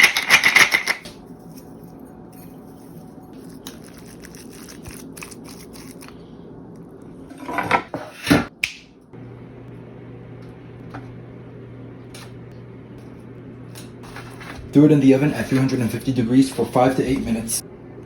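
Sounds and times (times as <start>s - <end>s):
steady low hum: 0.4s - 18.0s.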